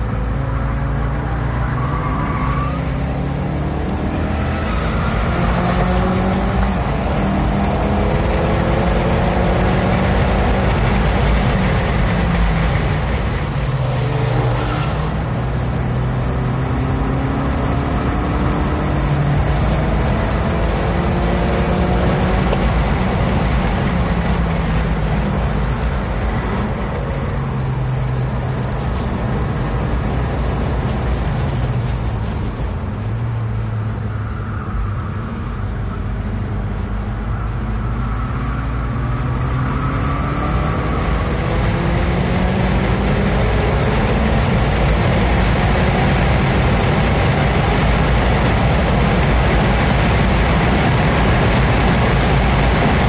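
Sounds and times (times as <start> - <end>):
car engine revving with gear shifts: 0.0 - 35.1, 35.9 - 53.0.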